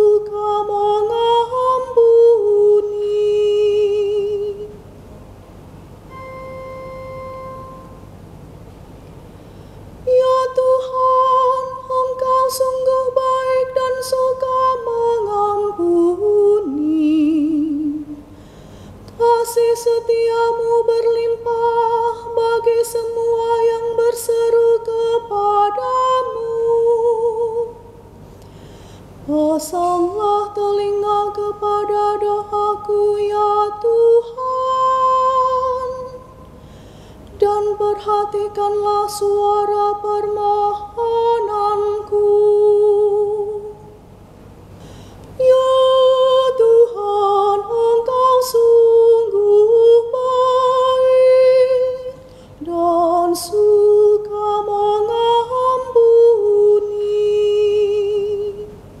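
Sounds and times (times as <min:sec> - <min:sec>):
woman chanting: 0:00.0 - 0:04.8, 0:10.1 - 0:18.3, 0:19.2 - 0:28.0, 0:29.3 - 0:36.4, 0:37.4 - 0:43.8, 0:45.4 - 0:58.8.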